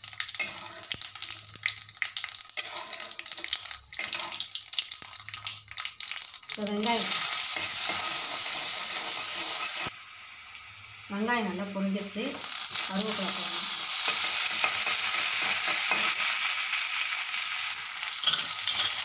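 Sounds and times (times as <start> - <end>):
onions sizzling in oil: 0.0 - 19.0
seeds crackling in hot oil: 0.0 - 19.0.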